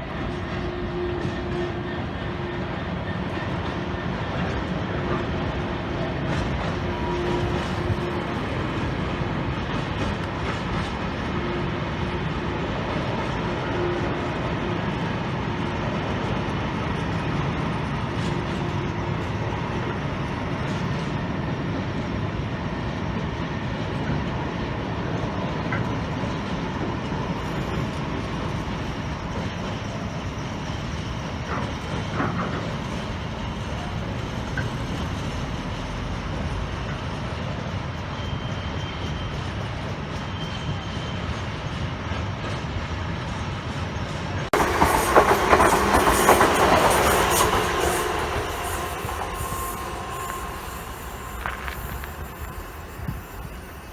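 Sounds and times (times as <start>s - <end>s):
train squeaks: 0.0s - 22.6s, 25.3s - 53.9s
train wheels rumbling: 0.0s - 53.9s.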